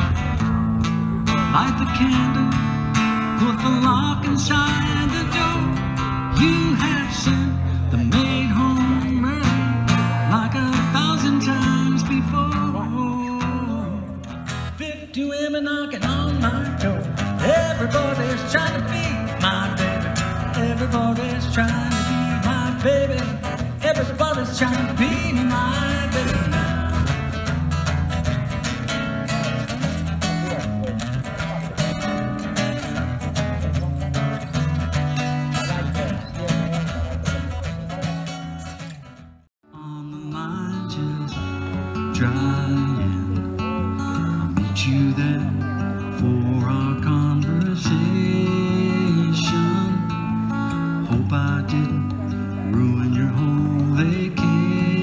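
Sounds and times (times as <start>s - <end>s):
man singing: 0.0s - 38.9s, 39.6s - 55.0s
acoustic guitar strumming chords: 0.0s - 55.0s.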